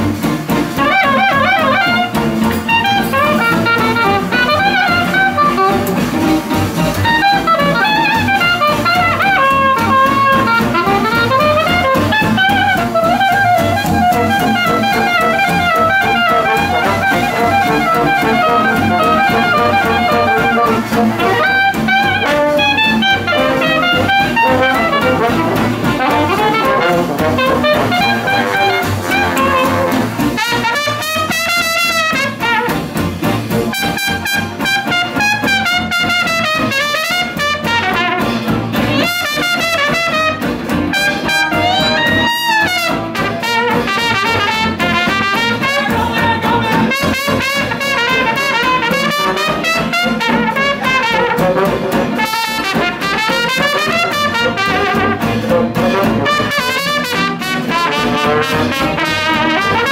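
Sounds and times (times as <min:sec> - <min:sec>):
jazz band playing: 0:00.0 - 0:59.9
trombone: 0:00.0 - 0:59.9
soprano saxophone: 0:00.8 - 0:06.2, 0:07.0 - 0:32.7, 0:41.0 - 0:59.9.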